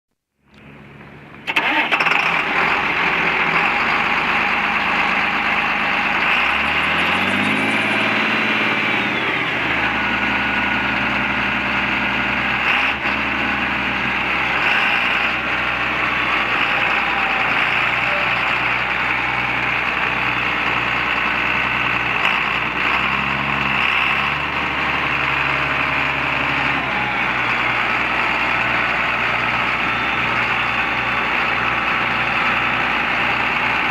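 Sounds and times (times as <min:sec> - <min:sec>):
tractor diesel engine running: 0:00.4 - 0:33.9.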